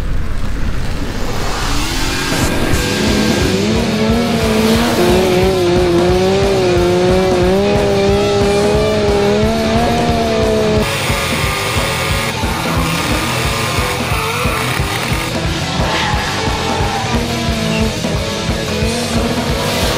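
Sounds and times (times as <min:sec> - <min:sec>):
car tyres squealing: 0:00.1 - 0:18.2
background music: 0:01.7 - 0:19.9.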